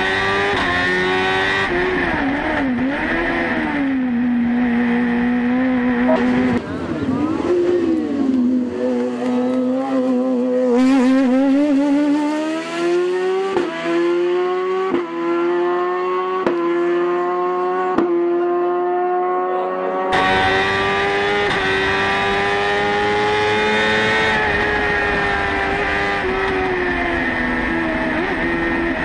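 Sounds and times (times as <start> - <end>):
engine upshifting: 0.0 - 29.0
road and wind noise: 0.0 - 29.0.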